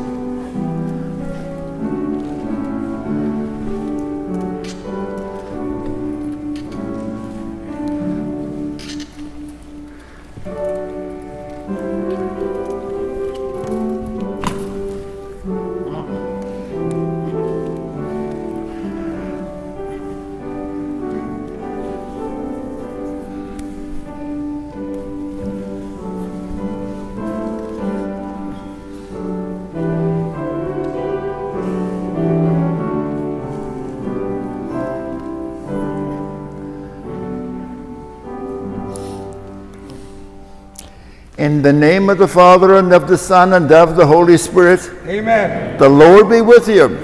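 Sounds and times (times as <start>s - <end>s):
slow instrumental church music: 0.0s - 47.0s.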